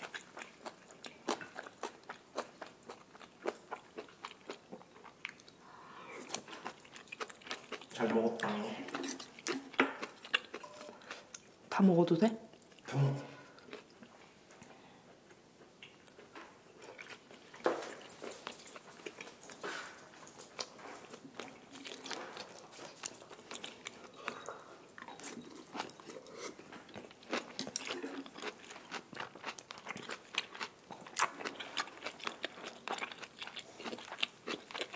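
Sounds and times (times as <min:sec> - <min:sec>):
person chewing: 0:00.0 - 0:11.6, 0:13.5 - 0:14.7, 0:15.3 - 0:34.9.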